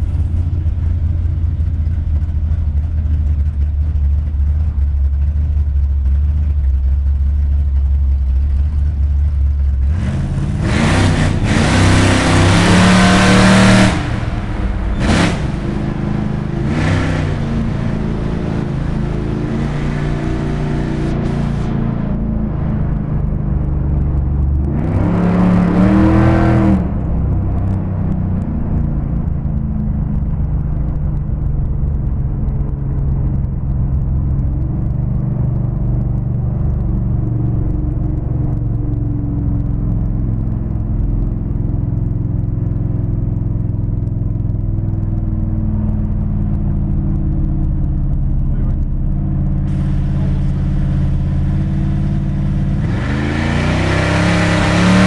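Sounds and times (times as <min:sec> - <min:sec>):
car engine rumbling and revving: 0:00.0 - 0:55.0.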